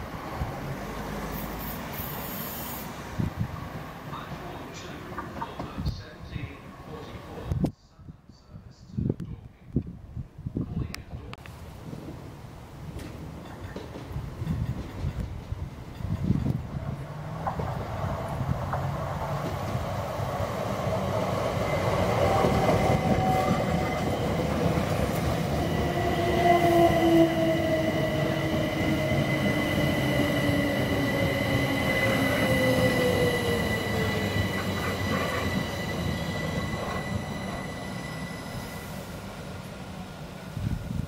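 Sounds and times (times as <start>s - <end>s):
train wheels rumbling on rails: 3.1s - 7.7s, 11.8s - 41.0s.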